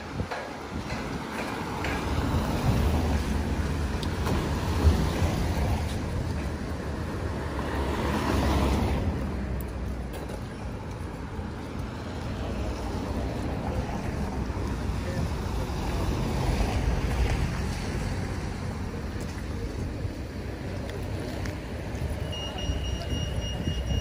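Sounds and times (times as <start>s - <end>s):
car passing: 0.9s - 22.2s.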